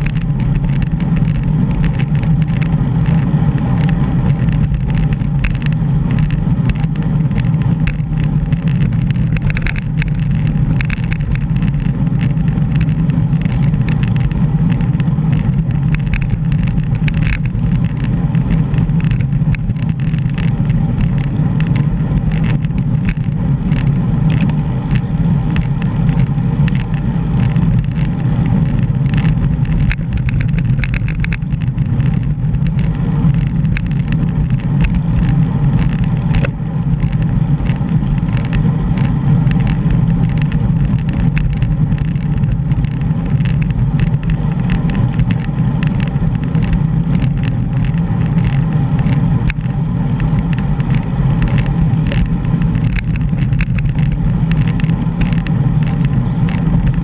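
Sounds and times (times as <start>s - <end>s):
faint ticks: 0.0s - 57.0s
road noise: 0.0s - 57.0s
wind buffeting microphone: 0.0s - 57.0s.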